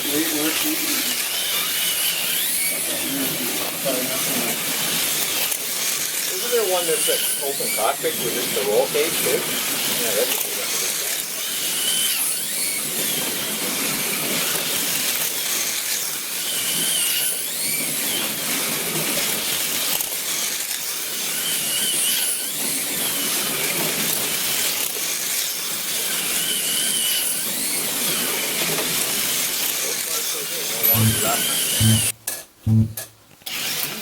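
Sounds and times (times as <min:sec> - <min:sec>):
slot car motors whining: 0:00.0 - 0:33.9.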